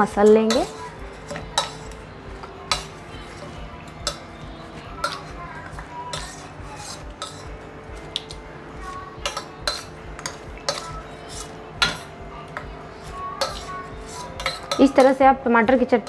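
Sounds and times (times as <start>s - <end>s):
metal spoon scraping steel bowl: 0.2s - 15.3s.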